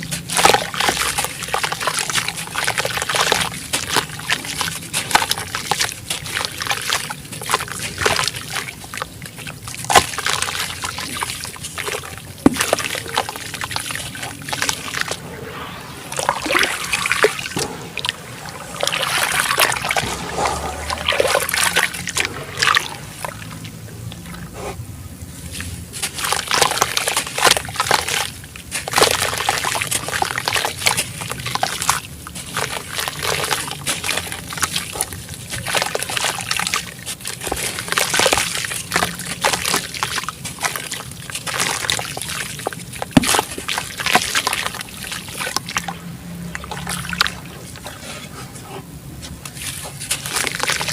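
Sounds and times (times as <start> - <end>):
water sloshing and dribbling: 0.0 - 50.9.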